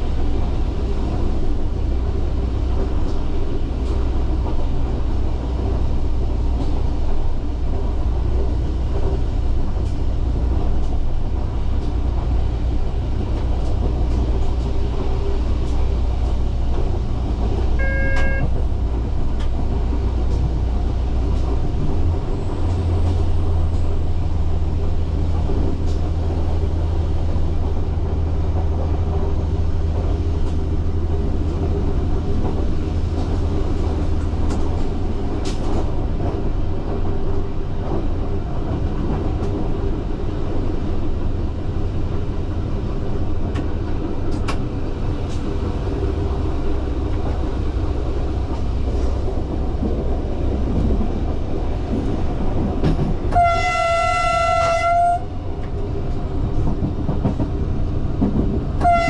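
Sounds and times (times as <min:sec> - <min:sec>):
railcar engine drone: 0:00.0 - 0:59.0
train rolling noise: 0:00.0 - 0:59.0.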